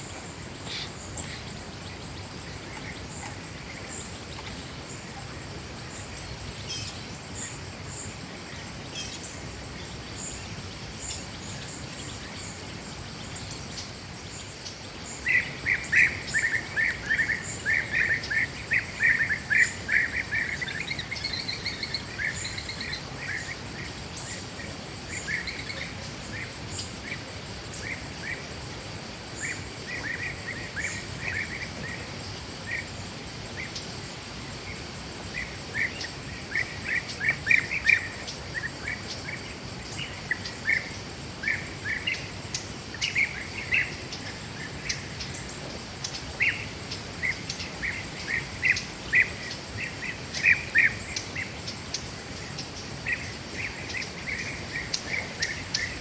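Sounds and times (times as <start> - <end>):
small birds chirping: 0.0 - 28.6, 29.2 - 56.0.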